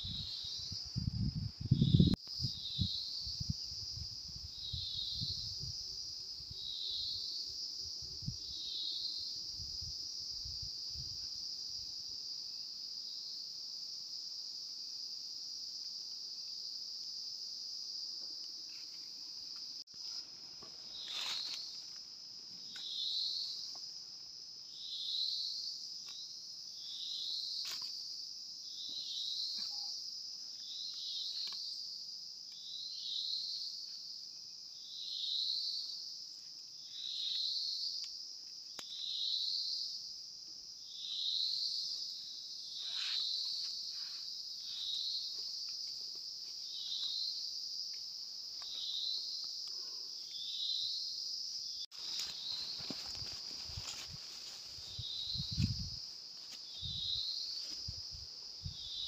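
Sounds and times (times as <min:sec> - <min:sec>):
forest insects droning: 0:00.0 - 0:59.0.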